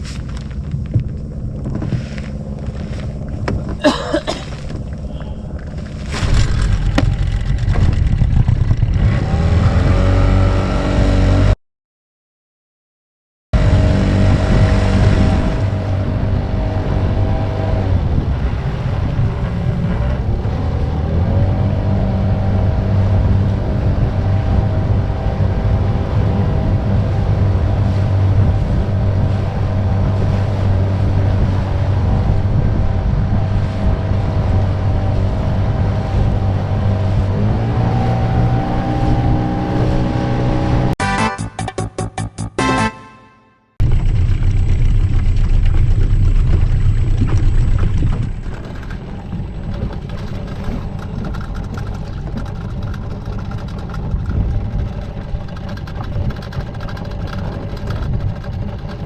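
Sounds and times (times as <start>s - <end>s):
outboard motor running: 0.0s - 11.5s, 13.6s - 41.0s, 43.8s - 59.0s
wind on microphone: 0.0s - 11.6s, 13.6s - 41.0s, 43.8s - 59.0s.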